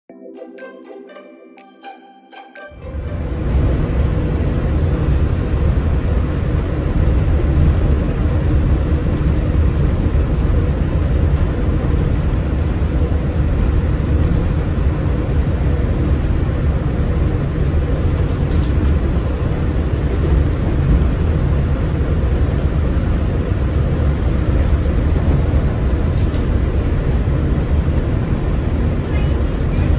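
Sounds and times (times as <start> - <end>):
monorail rumbling: 2.4 - 29.9.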